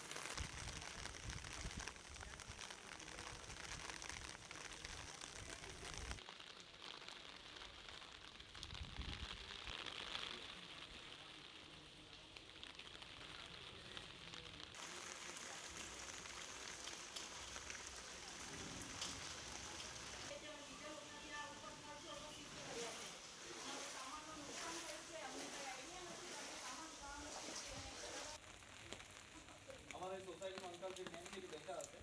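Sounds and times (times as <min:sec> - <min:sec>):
heavy rain hiss: 0:00.0 - 0:32.0.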